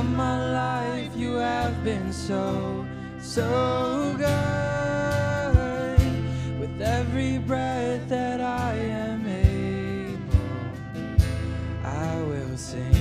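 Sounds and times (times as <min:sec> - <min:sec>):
acoustic guitar: 0:00.0 - 0:13.0
person singing slow melody: 0:00.0 - 0:13.0.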